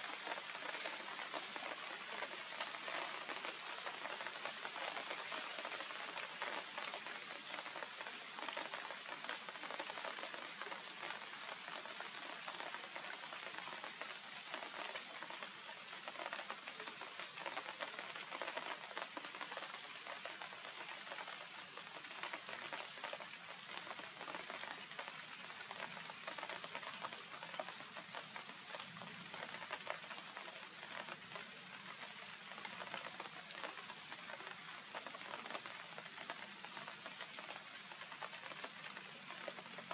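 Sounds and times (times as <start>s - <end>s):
crackling hiss: 0.0s - 39.9s.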